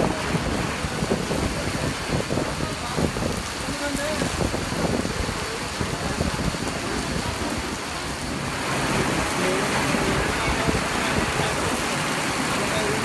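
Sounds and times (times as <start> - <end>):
gusty wind rumble: 0.0 - 13.0
heavy rain pouring: 0.0 - 13.0.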